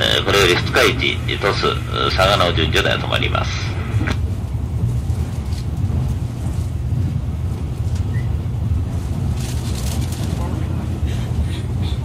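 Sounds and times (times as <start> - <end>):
train rumbling at speed: 0.0 - 12.0.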